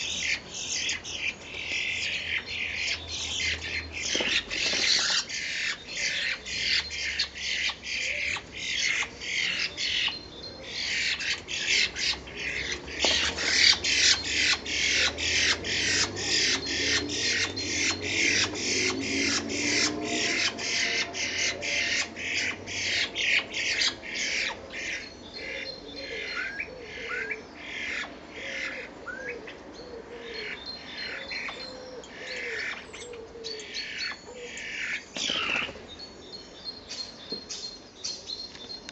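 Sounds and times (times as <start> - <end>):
starlings harsh rasping calls: 0.0 - 29.3, 30.5 - 35.8.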